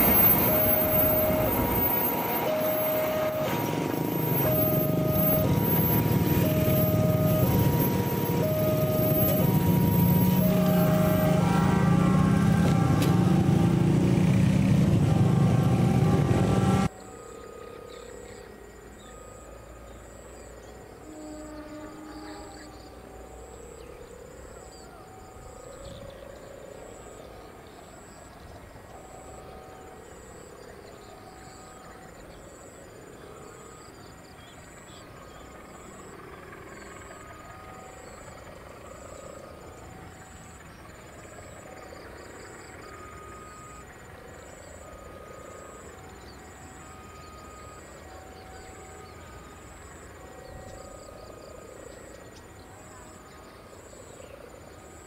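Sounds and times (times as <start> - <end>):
insects calling: 0.0 - 55.0
level crossing warning signal: 0.0 - 55.0.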